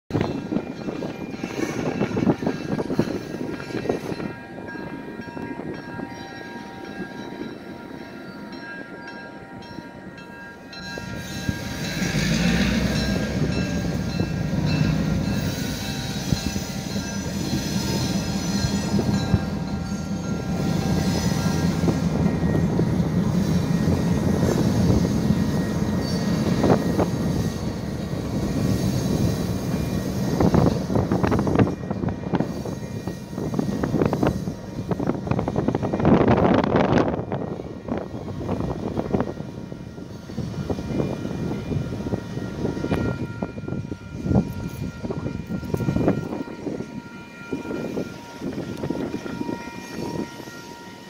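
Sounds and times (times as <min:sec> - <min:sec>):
crossing signal ringing: 0:00.1 - 0:51.0
diesel locomotives rumbling: 0:00.1 - 0:51.0
train wheels rumbling: 0:00.1 - 0:51.0.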